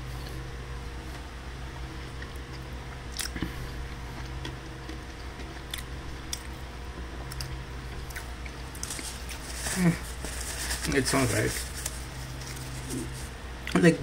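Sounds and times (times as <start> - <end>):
steady low hum: 0.0 - 14.0
person chewing crispy food: 1.9 - 13.8.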